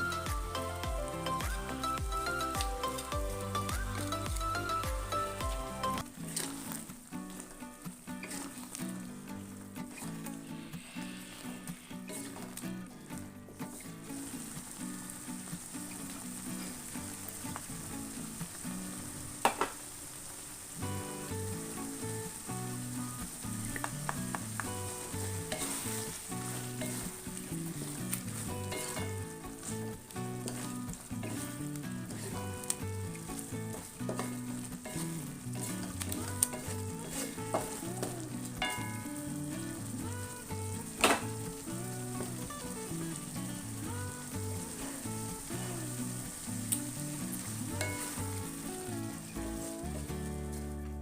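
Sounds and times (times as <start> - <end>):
eggs sizzling in a pan: 0.0 - 50.8.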